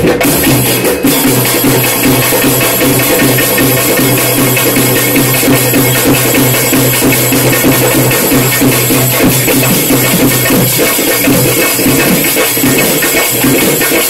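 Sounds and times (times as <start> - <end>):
hand drum ensemble playing: 0.0 - 14.0.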